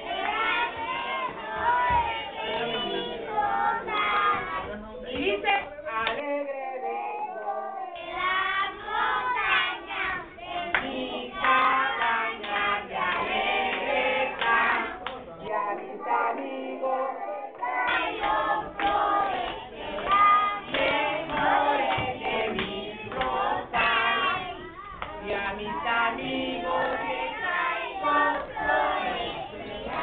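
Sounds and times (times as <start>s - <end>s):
children singing together: 0.0s - 4.8s, 6.7s - 30.0s.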